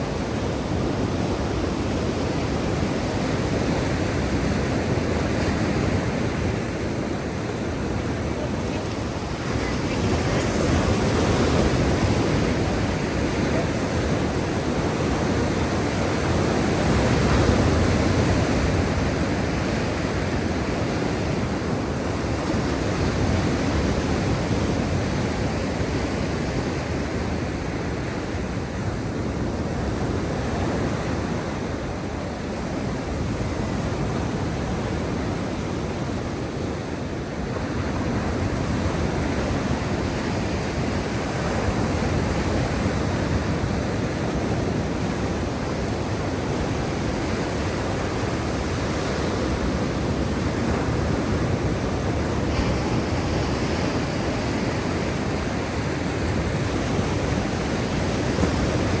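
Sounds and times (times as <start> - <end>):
sea surf waves washing: 0.0 - 59.0.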